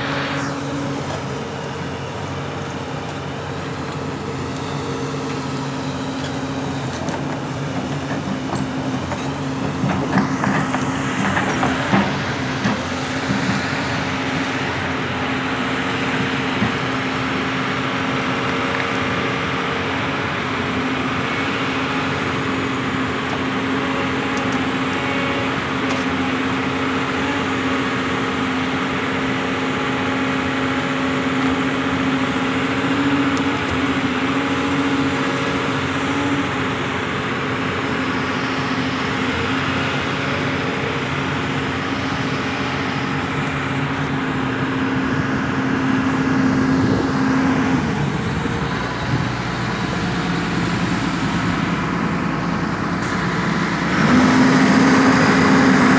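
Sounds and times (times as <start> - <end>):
diesel engine of heavy machinery: 0.0 - 55.9.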